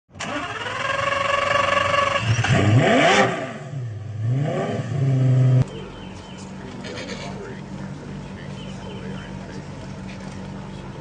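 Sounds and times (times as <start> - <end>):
sports car engine revving: 0.2 - 11.0.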